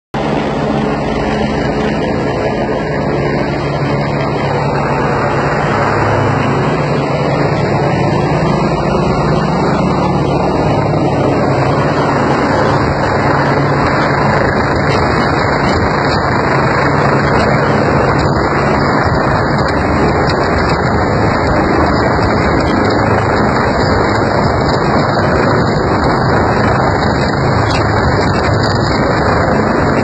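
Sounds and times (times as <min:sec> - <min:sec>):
helicopter rotor and engine: 0:00.2 - 0:30.0.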